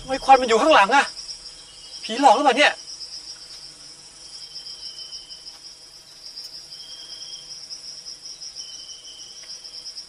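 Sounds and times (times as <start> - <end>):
insects chirring: 0.0 - 10.0
lower insect trill: 0.0 - 10.0.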